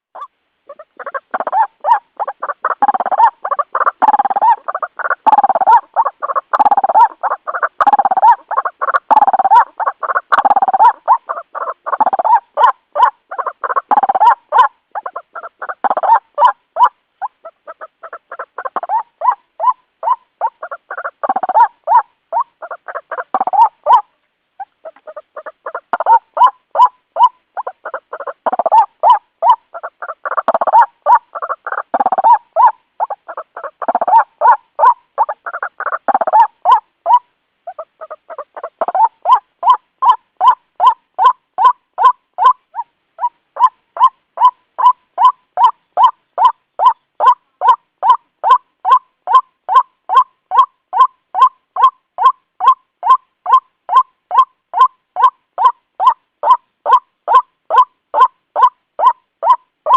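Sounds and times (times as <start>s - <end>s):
waterhen calling harsh notes: 0.1s - 59.9s.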